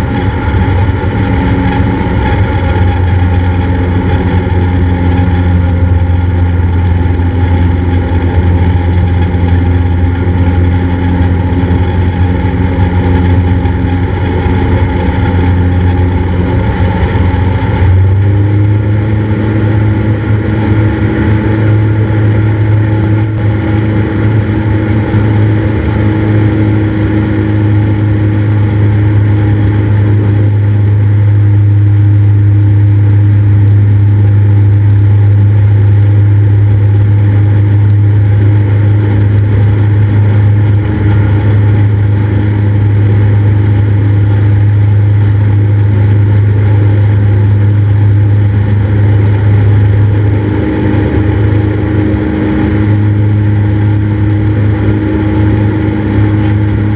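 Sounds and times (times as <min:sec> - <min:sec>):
light aircraft engine and propeller: 0:00.0 - 0:56.9.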